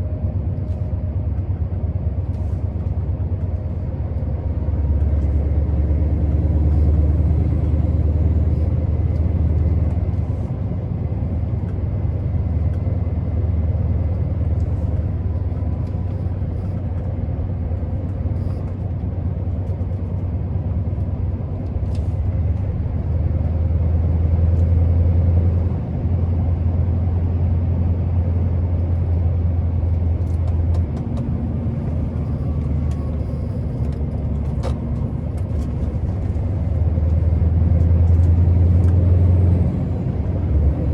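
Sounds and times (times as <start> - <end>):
diesel engine drone: 0.0 - 40.9.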